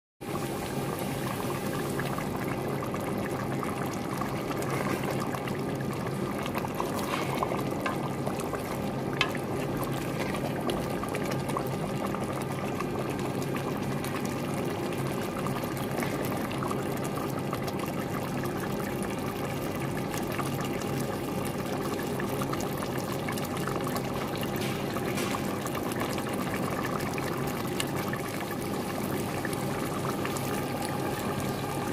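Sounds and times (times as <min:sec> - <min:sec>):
curry bubbling in a pot: 0:00.2 - 0:31.9.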